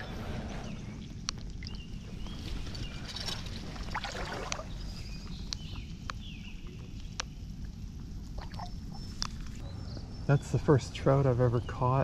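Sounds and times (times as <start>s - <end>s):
water splashing and sloshing: 0.0s - 9.6s
steady low rumble: 0.0s - 12.0s.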